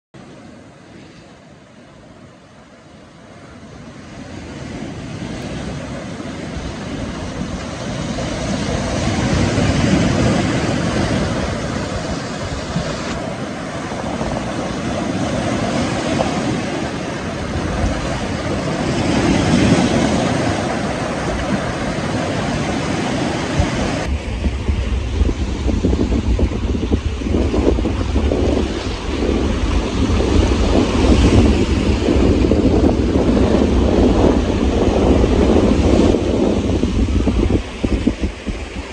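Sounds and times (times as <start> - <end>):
surf washing over rocks: 0.2 - 38.9.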